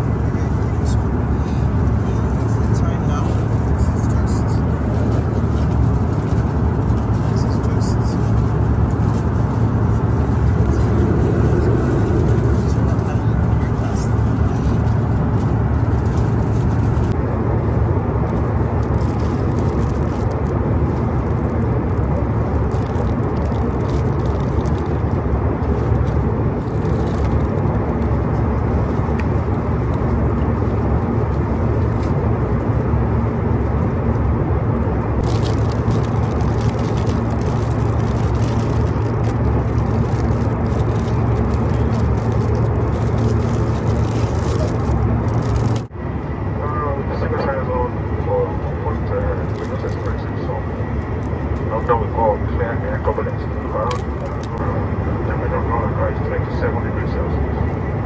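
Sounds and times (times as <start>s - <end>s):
jet cabin engine drone: 0.0s - 58.0s.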